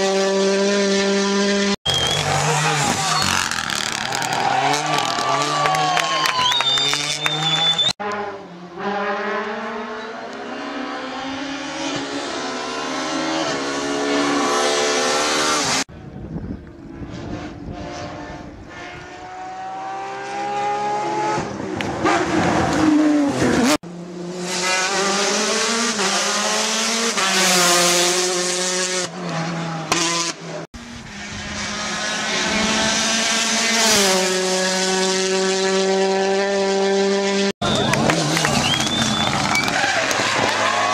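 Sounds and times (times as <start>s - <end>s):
rally car engines revving: 0.0s - 15.9s, 16.8s - 40.9s.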